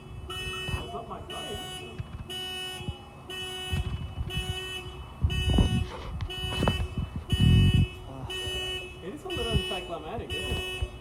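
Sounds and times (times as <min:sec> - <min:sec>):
car alarm pulsing: 0:00.0 - 0:11.0.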